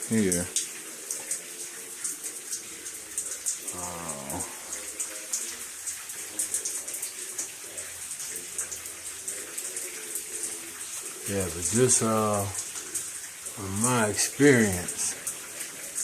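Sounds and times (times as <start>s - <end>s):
water spraying from pipe: 0.0s - 16.0s.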